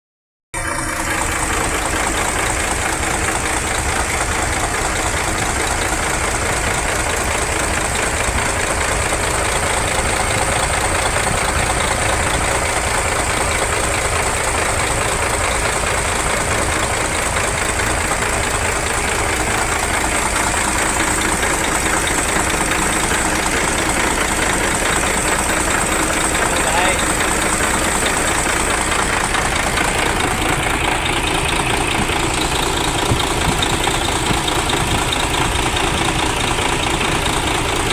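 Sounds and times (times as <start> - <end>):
diesel engine idling: 0.6 - 37.9.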